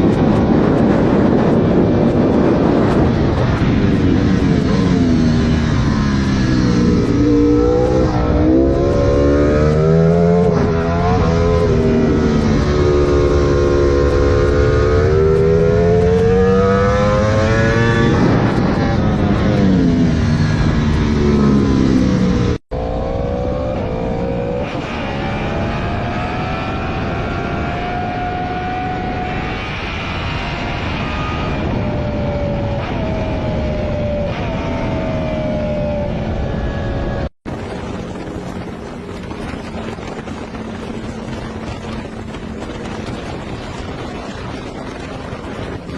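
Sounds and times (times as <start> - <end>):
tuned engine revving: 0.0 - 45.9.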